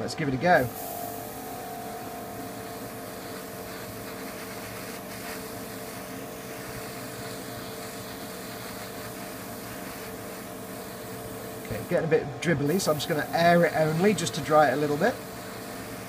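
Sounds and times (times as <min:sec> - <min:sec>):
electric fan humming: 0:00.0 - 0:16.0
airbrush spraying hiss: 0:00.5 - 0:16.0.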